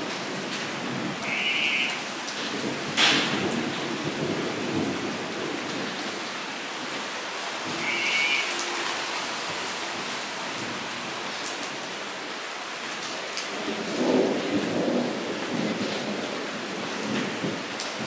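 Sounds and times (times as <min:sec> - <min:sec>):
rain pattering into puddle: 0:00.0 - 0:18.0.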